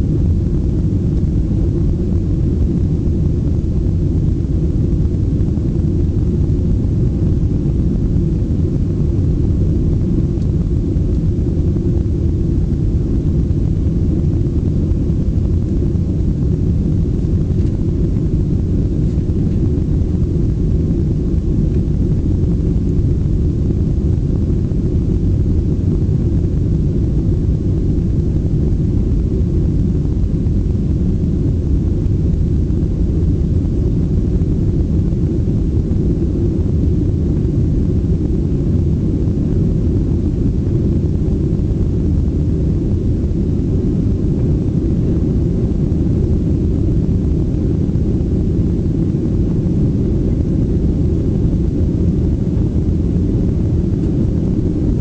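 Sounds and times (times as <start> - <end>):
jet engine rumble in cabin: 0.0 - 55.0.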